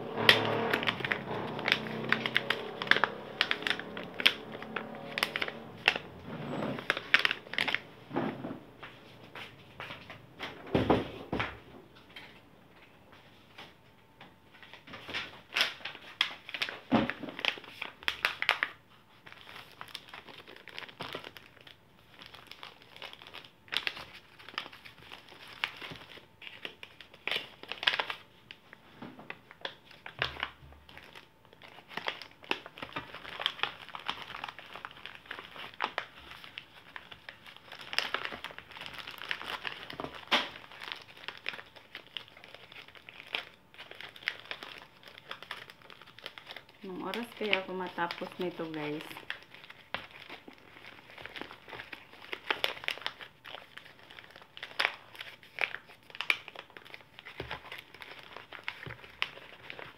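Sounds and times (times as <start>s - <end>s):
packaging pouches crinkling: 0.1s - 8.0s, 14.5s - 59.9s.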